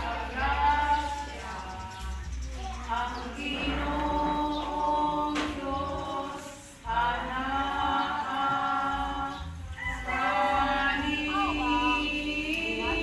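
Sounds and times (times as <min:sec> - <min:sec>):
group singing in unison: 0:00.0 - 0:13.0.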